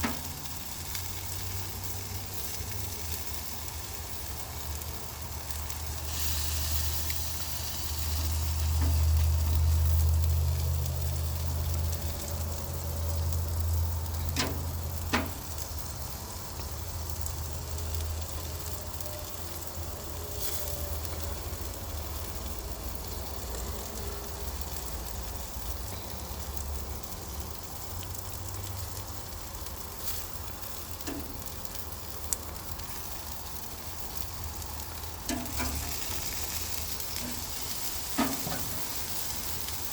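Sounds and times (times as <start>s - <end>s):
food sizzling as it fries: 0.0s - 39.9s.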